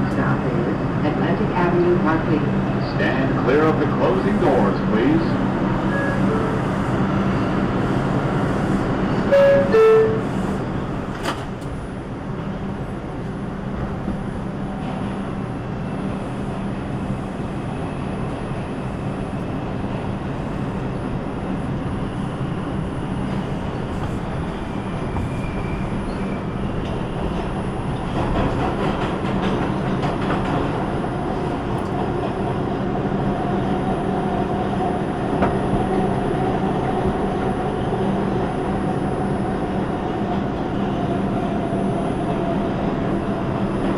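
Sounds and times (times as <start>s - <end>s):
subway train rumbling: 0.0s - 43.9s.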